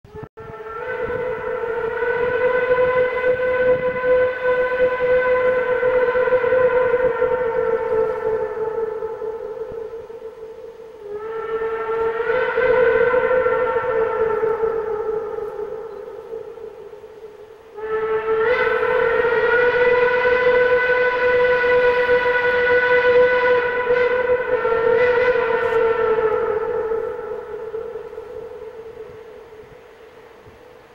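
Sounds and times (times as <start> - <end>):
steam locomotive whistle blast: 0.1 - 30.9.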